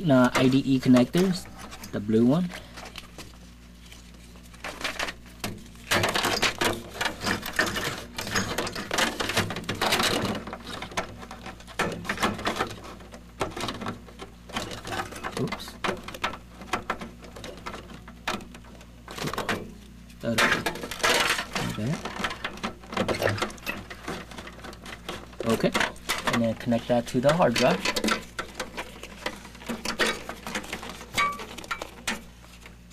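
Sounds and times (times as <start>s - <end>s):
ribbon cable rustling and scraping: 0.0s - 32.9s.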